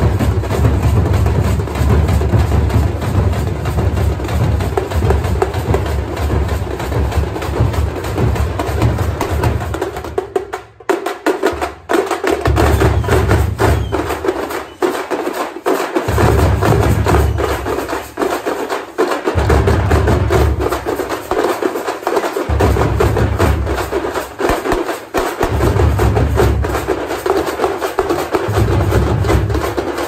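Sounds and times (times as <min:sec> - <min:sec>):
drum troupe beating fast rhythm: 0:00.0 - 0:30.0.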